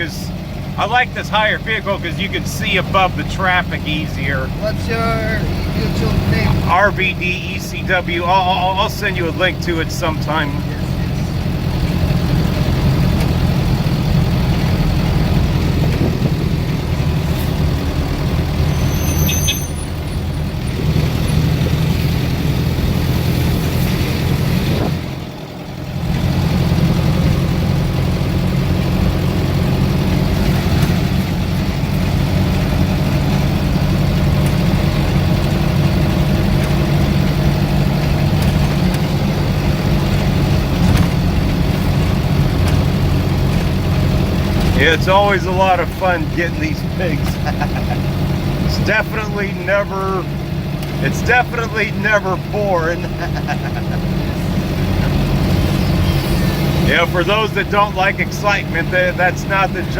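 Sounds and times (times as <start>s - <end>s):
road noise inside vehicle cab: 0.0s - 59.9s
vehicle engine hum: 0.0s - 59.9s.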